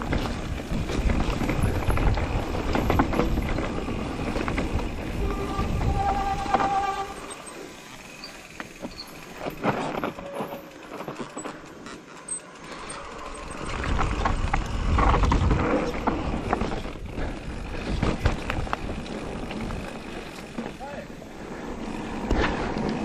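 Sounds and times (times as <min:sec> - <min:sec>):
bike clicks and rattles: 0:00.0 - 0:23.0
bike tyres rolling over dirt: 0:00.0 - 0:23.0.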